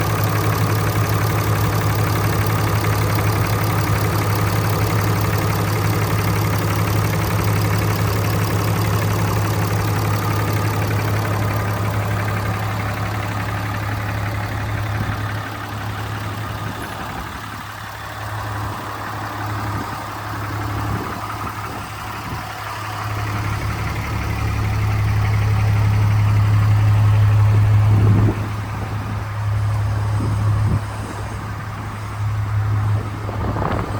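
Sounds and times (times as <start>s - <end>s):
pickup engine idling: 0.0s - 33.9s.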